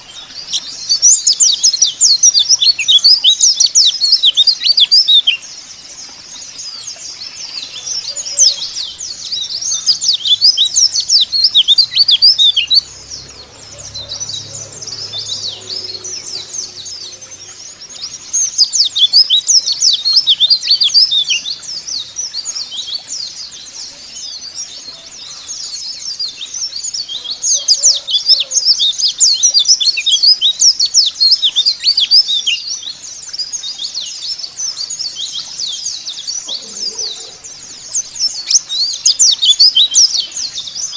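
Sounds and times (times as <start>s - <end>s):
small birds twittering: 0.0s - 40.9s.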